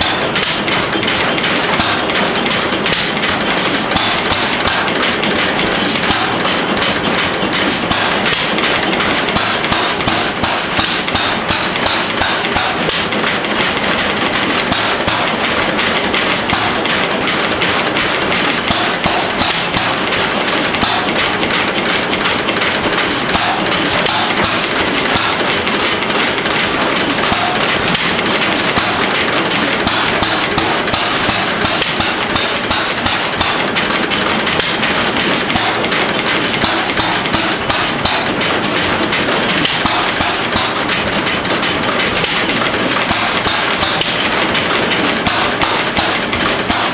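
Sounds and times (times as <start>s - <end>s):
old stationary engine knocking: 0.0s - 46.9s.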